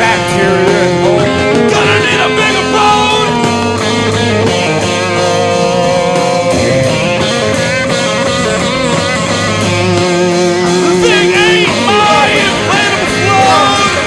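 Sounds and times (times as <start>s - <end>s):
grunge rock music with guitars: 0.0s - 14.0s.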